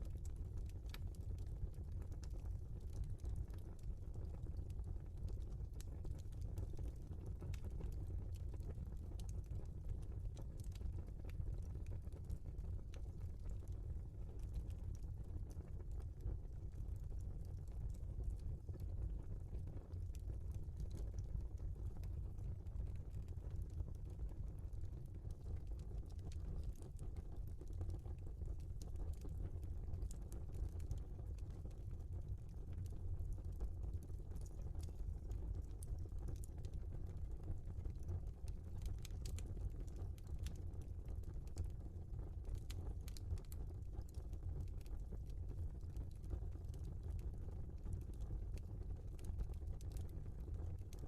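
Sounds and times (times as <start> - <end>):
logs crackling in fireplace: 0.0 - 51.0
low rumble of flames: 0.0 - 51.0.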